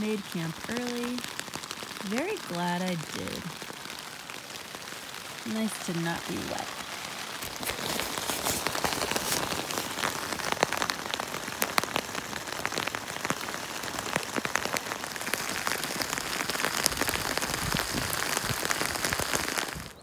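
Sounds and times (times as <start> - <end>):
rain pattering on tent fabric: 0.0 - 20.0
sharp raindrop hits: 0.0 - 20.0.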